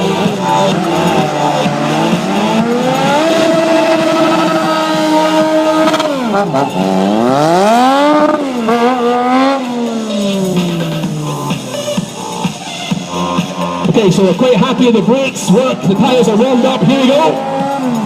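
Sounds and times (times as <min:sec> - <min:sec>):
engine revving hard: 0:00.0 - 0:12.4, 0:15.4 - 0:18.0.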